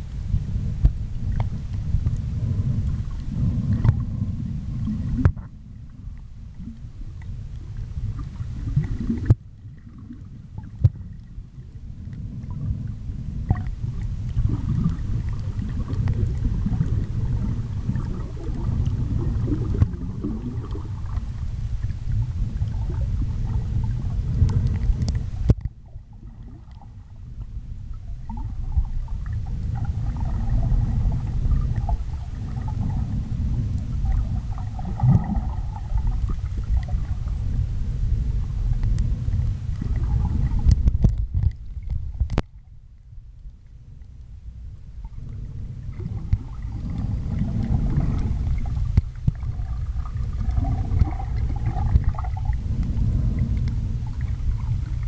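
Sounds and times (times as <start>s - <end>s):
muffled underwater water sloshing: 0.0s - 55.0s.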